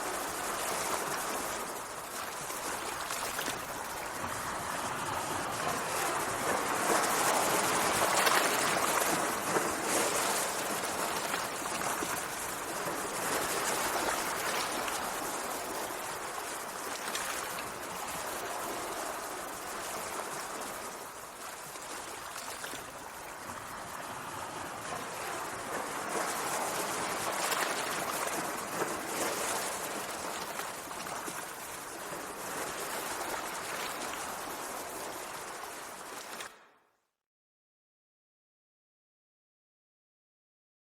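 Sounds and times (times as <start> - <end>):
sea water washing and rushing: 0.0 - 36.6.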